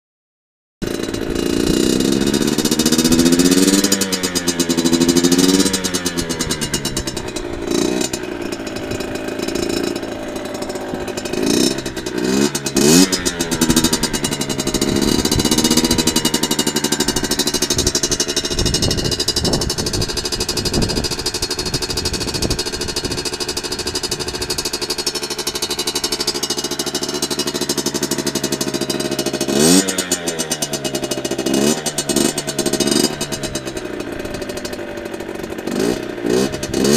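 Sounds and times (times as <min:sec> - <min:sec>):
two-stroke engine revving: 0:00.8 - 0:36.9.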